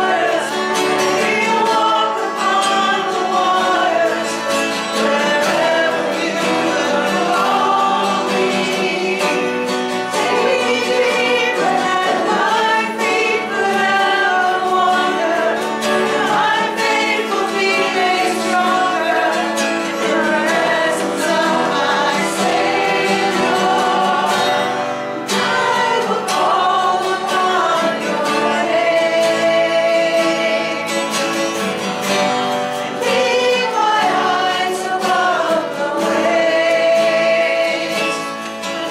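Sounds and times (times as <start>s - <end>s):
group singing worship song: 0.0s - 38.9s.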